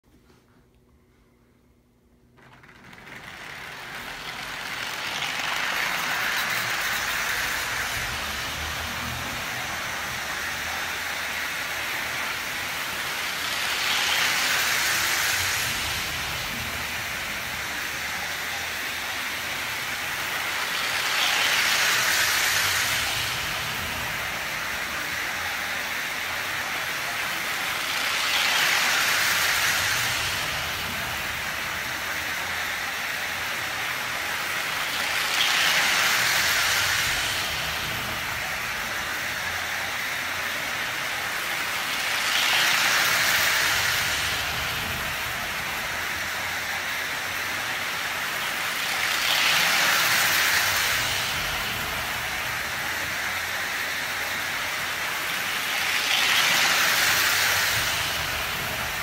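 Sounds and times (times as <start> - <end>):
model train rolling rumble: 2.2 - 59.0.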